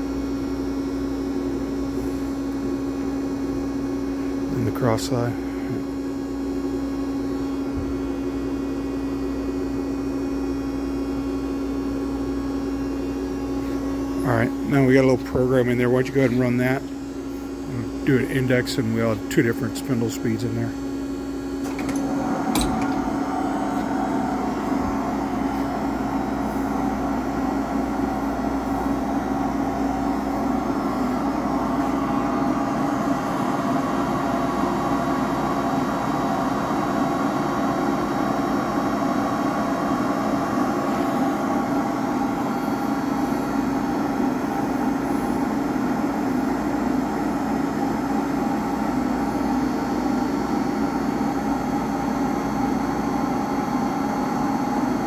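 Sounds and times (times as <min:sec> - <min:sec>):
lathe spindle humming: 0:00.0 - 0:55.0.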